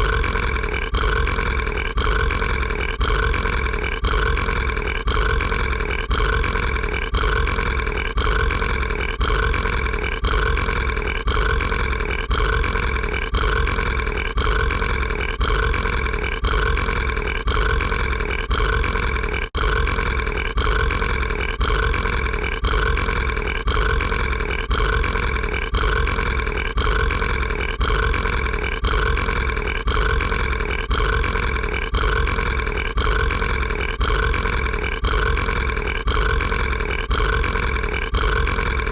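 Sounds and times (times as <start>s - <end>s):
cartoon monster belching: 0.0s - 38.9s.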